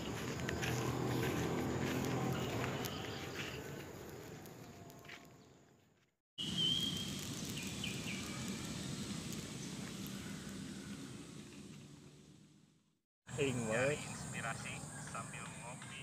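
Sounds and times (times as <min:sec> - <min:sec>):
rural outdoor ambience: 0:00.0 - 0:16.0.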